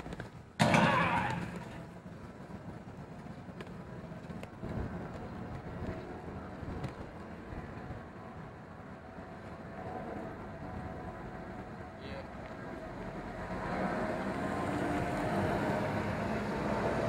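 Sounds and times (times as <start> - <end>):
car traffic passing: 0.4 - 17.0.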